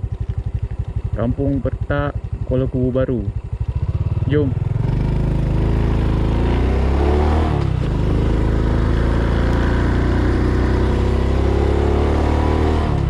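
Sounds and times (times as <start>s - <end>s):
motorcycle accelerating: 0.0s - 13.0s.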